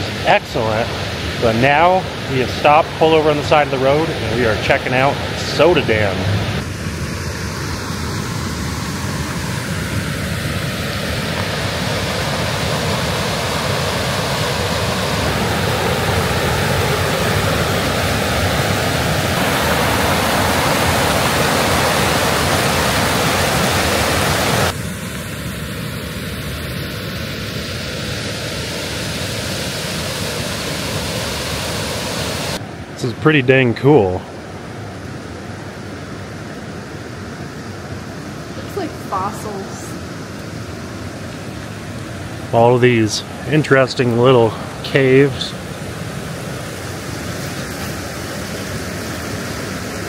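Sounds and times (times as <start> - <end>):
water rushing over rocks: 0.0 - 7.8, 8.5 - 24.8, 27.7 - 32.8, 38.5 - 50.0.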